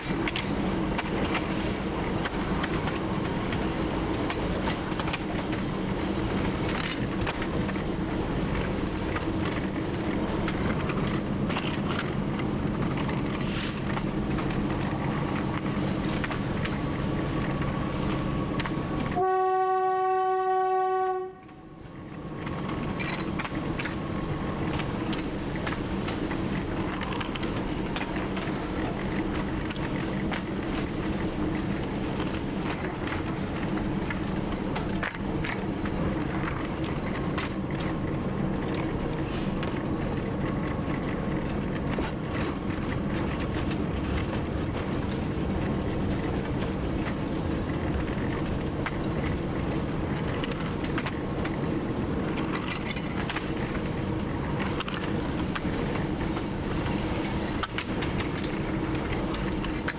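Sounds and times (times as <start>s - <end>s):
wheels clicking on rails: 0.0s - 20.5s, 21.2s - 59.9s
diesel locomotive engine running: 0.0s - 59.9s.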